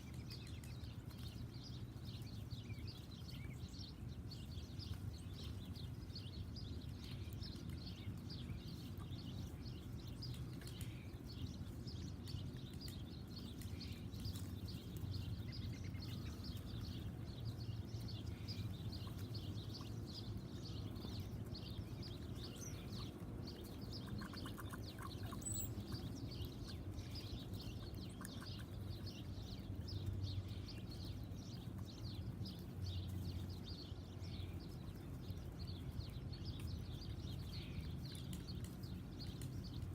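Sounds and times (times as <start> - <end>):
low steady hum: 0.0 - 39.9
small birds chirping: 0.0 - 39.9.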